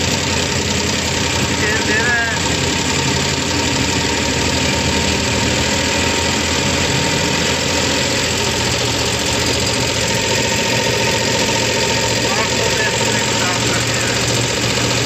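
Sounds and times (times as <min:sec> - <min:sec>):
machine running steadily: 0:00.0 - 0:15.0.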